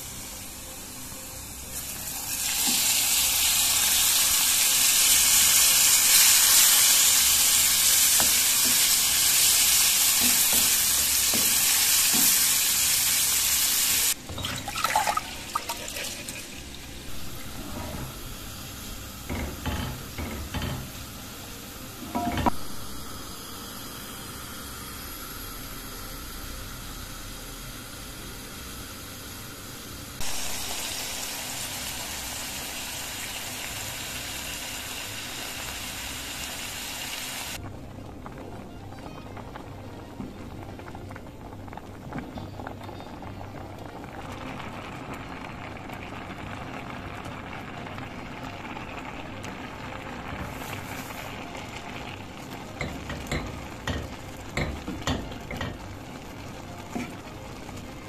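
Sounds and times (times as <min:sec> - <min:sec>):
meat and onions sizzling: 0:00.0 - 0:37.9, 0:43.9 - 0:58.0.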